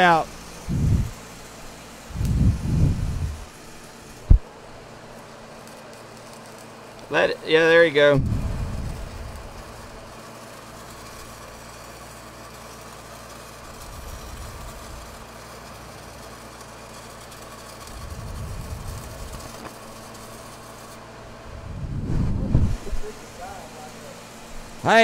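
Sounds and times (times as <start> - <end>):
engine-like drone: 0.0 - 4.4, 6.5 - 11.6, 13.5 - 25.0
welding arc crackling and hissing: 0.0 - 25.0.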